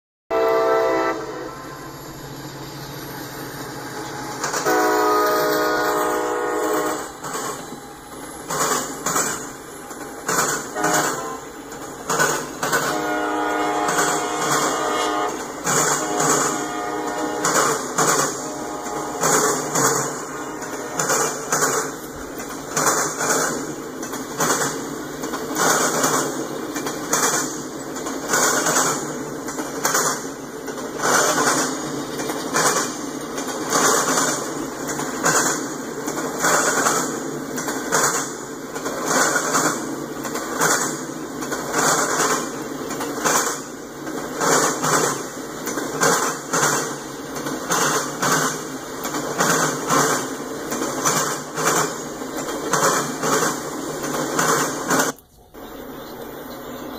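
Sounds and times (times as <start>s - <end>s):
train wheels clacking on track: 0.3s - 55.2s
rolling rumble of freight cars: 0.3s - 56.9s.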